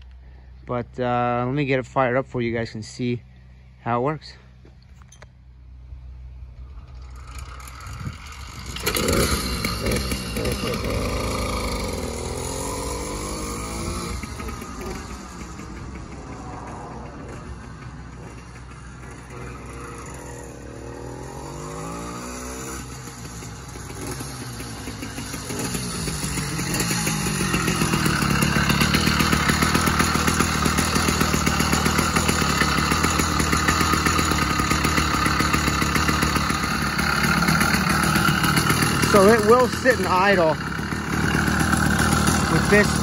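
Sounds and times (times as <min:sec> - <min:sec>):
two-stroke engine revving: 0:06.5 - 0:43.0.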